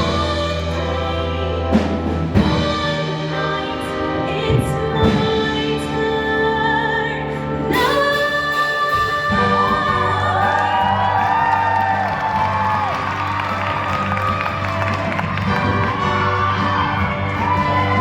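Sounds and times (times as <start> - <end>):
instrumental accompaniment: 0.0 - 18.0.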